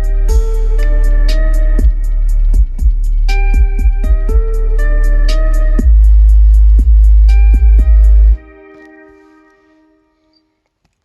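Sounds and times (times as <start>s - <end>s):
bass-heavy music from subwoofer: 0.0s - 10.2s.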